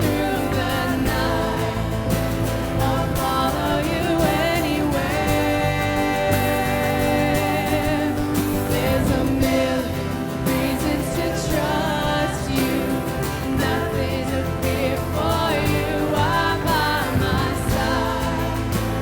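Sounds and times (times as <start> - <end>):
guitar: 0.0 - 19.0
sung vocals: 0.0 - 19.0
worship band playing: 0.0 - 19.0.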